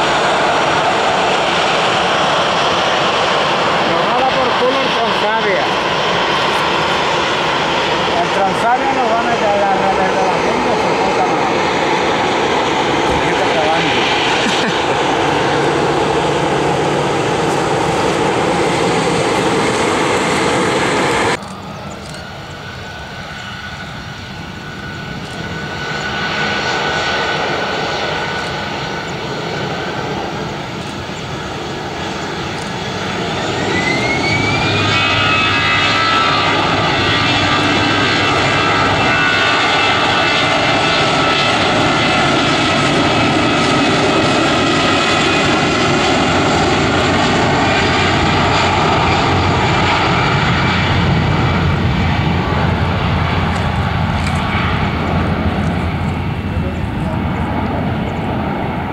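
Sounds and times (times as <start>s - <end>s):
jet engine whine rising: 0.0s - 58.9s
jet engines running: 0.0s - 58.9s.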